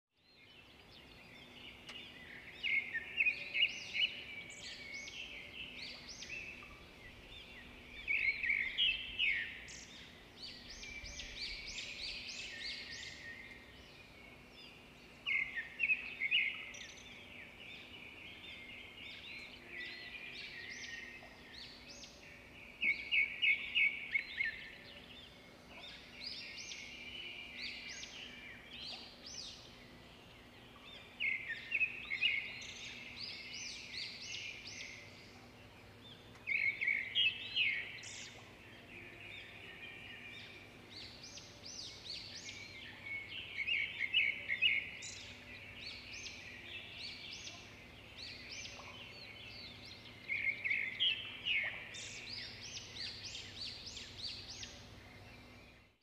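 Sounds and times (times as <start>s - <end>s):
birds chirping and trilling: 0.2s - 56.0s.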